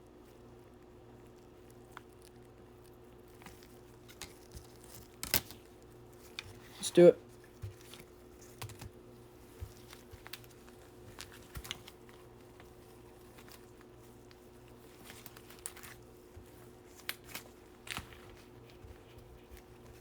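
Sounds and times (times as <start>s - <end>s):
plastic sleeves crinkling: 0.2s - 20.0s.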